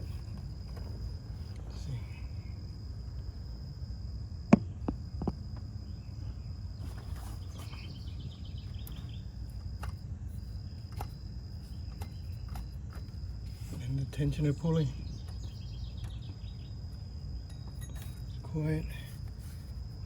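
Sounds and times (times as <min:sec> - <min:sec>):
high insect trill: 0:00.0 - 0:20.0
low background rumble: 0:00.0 - 0:20.0.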